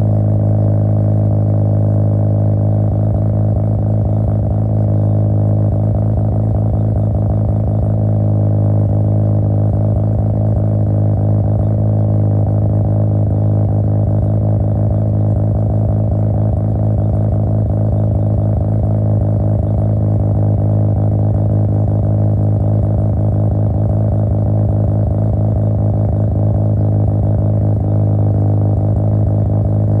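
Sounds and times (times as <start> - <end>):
rotary engine exhaust drone: 0.0 - 30.0.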